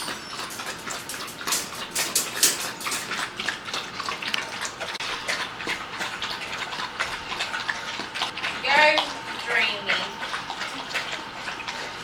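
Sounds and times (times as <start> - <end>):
dogs lapping water: 0.0 - 12.0.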